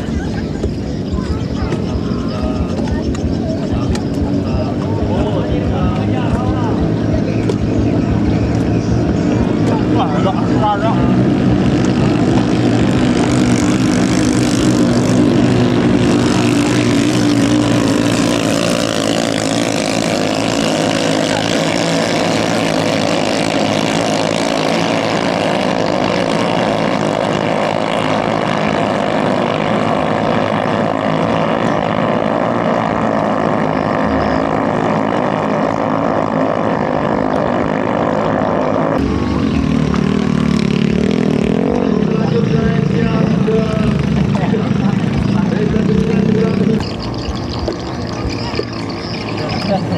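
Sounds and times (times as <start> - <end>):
boat engines at high revs: 0.0 - 49.9.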